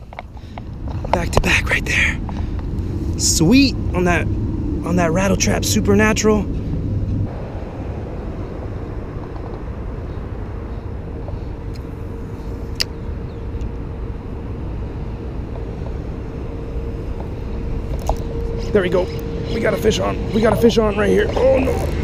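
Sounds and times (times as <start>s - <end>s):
highway traffic rumble: 0.0s - 22.0s.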